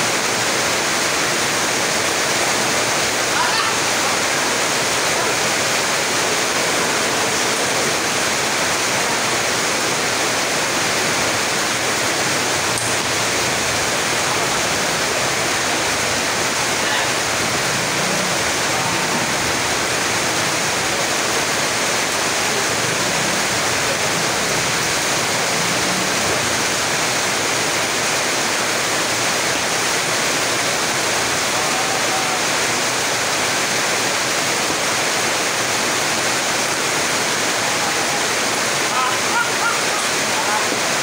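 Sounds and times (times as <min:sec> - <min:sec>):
rain falling: 0:00.0 - 0:41.0.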